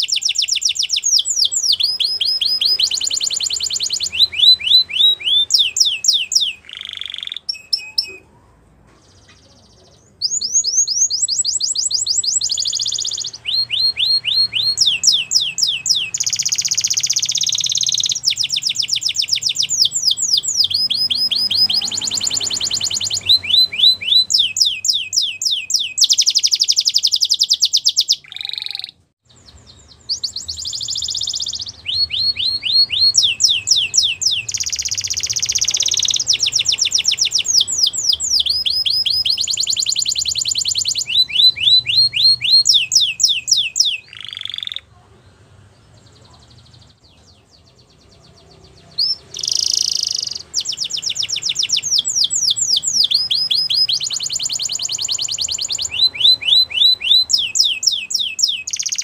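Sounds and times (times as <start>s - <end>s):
canary singing trills: 0.0s - 8.4s, 9.0s - 59.0s.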